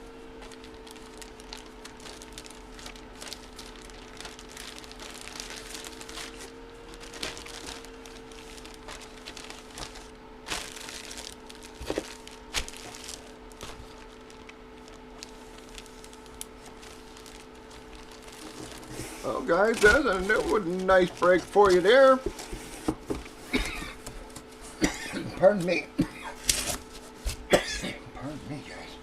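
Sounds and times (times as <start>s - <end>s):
plastic packaging crinkling: 0.0s - 24.6s
faint hum: 0.0s - 29.0s.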